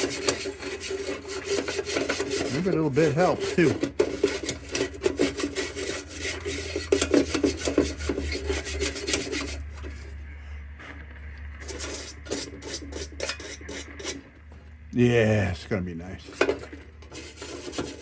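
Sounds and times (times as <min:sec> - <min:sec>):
hand scrubbing metal: 0:00.0 - 0:10.1, 0:11.6 - 0:14.2, 0:15.7 - 0:18.0
steady low hum: 0:02.0 - 0:17.8.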